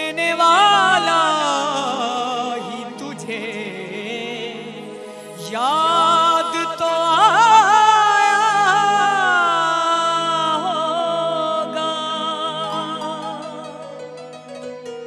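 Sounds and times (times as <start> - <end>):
young man singing: 0.0 - 14.1
instrumental accompaniment: 0.0 - 15.0.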